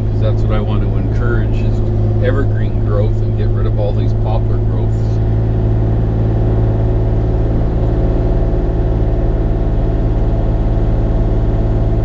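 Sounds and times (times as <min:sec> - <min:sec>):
mini excavator diesel engine: 0:00.0 - 0:12.0.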